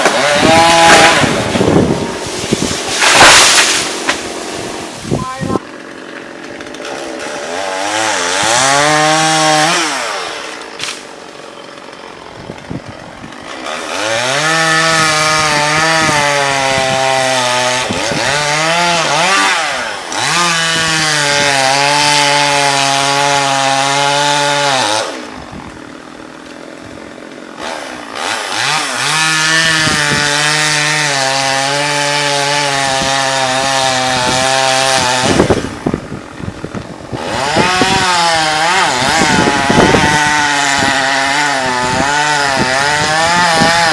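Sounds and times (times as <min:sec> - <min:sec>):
chainsaw cutting wood: 0:00.0 - 0:43.9
chainsaw idling: 0:00.0 - 0:43.9.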